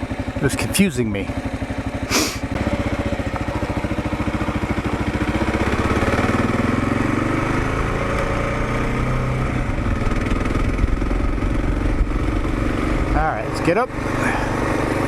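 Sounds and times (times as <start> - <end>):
motorcycle engine thumping and revving: 0.0 - 15.0.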